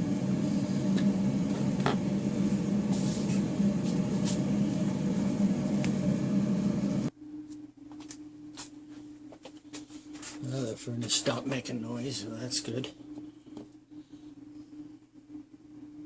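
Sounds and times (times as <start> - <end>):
furnace blower humming: 0.0 - 7.2, 8.0 - 15.2.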